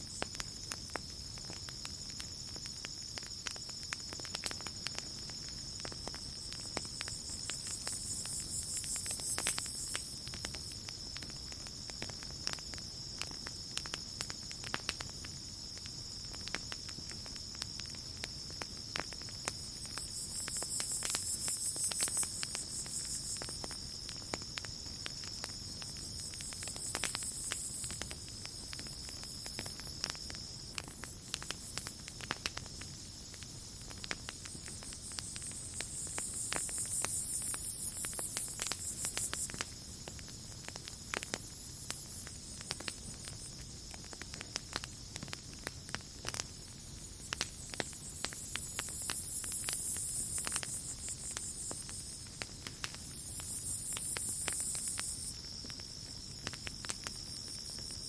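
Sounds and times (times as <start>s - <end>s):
campfire crackling: 0.0s - 58.0s
crickets chirring: 0.0s - 58.0s.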